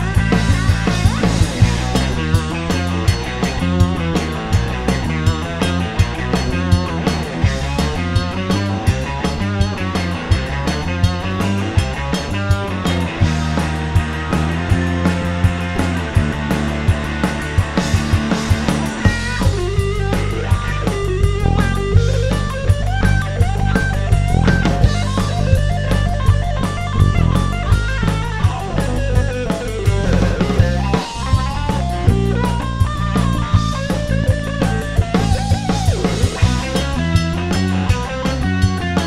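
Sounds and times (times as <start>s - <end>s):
bass guitar: 0.0s - 39.0s
drum kit beat: 0.0s - 39.0s
electric guitar lead line: 0.0s - 39.0s.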